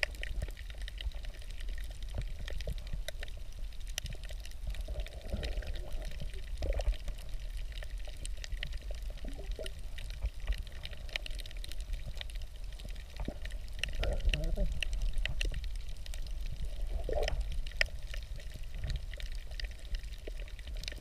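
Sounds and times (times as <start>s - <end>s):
muffled underwater rumble: 0.0s - 21.0s
small clicks and crackles: 0.0s - 21.0s.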